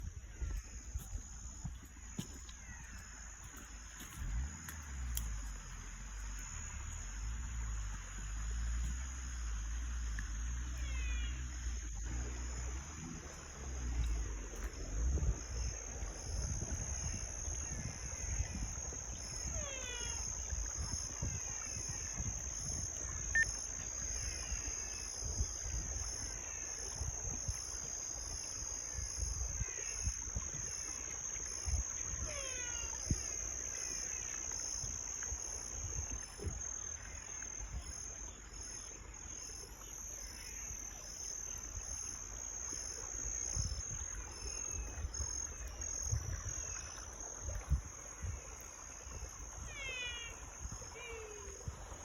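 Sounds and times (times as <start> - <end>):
high insect drone: 0.0 - 52.0.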